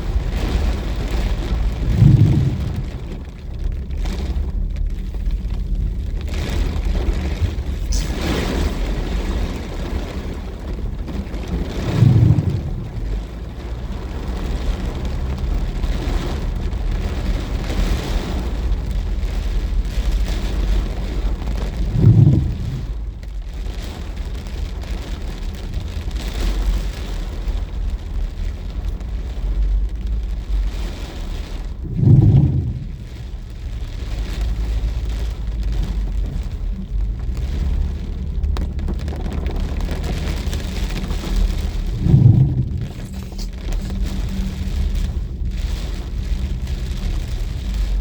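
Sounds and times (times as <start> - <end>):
heavy rain falling: 0.0 - 48.0
low rumble: 0.0 - 48.0.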